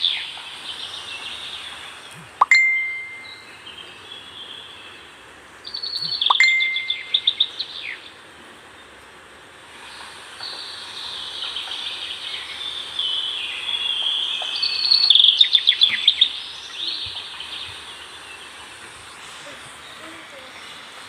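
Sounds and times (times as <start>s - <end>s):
faint steady background hiss: 0.0s - 21.0s
songbird singing: 0.0s - 21.0s.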